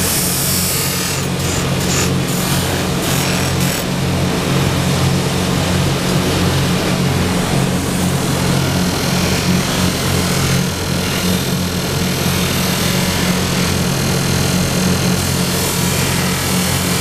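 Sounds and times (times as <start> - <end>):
machinery motor hum: 1.0 - 17.0.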